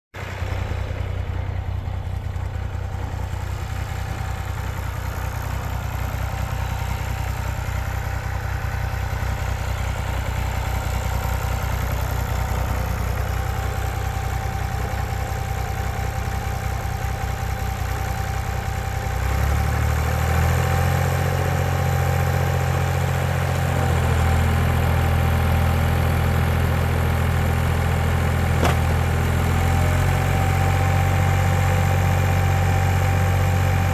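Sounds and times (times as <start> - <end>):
rototiller: 0.2 - 33.9
tractor engine running: 0.2 - 33.9.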